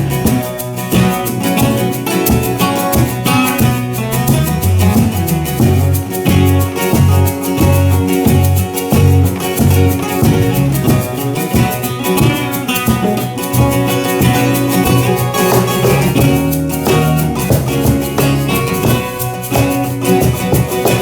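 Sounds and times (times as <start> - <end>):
low bass notes: 0.0 - 21.0
strummed acoustic guitar: 0.0 - 21.0.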